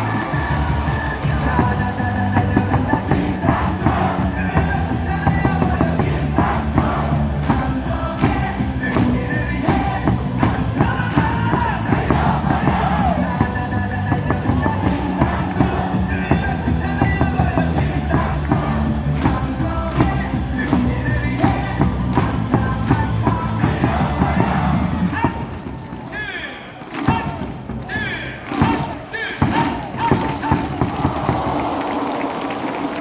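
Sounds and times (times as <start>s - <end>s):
cheer music over loudspeakers: 0.0s - 33.0s
crowd singing and chanting: 0.0s - 33.0s.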